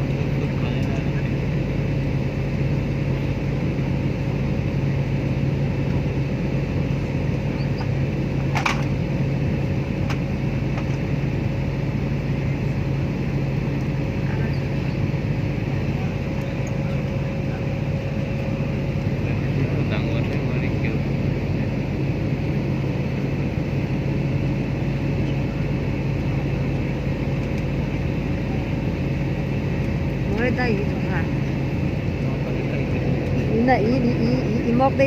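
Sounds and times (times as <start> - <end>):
airplane cabin engine hum: 0.0 - 35.0.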